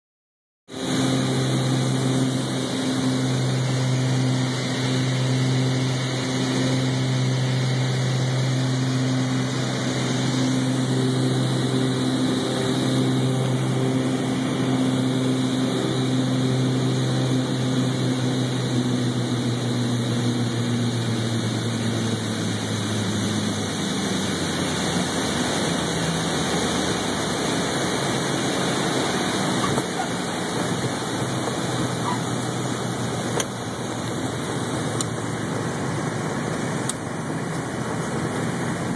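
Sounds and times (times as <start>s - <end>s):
propeller plane engines droning: 0.7s - 38.9s.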